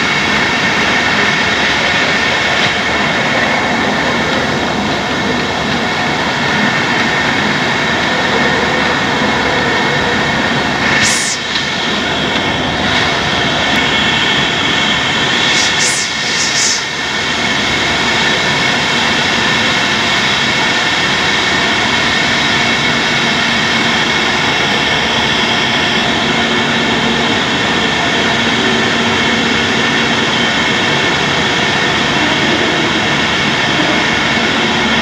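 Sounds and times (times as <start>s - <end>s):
production line machinery din: 0.0s - 35.0s
steady high machine tones: 0.0s - 35.0s.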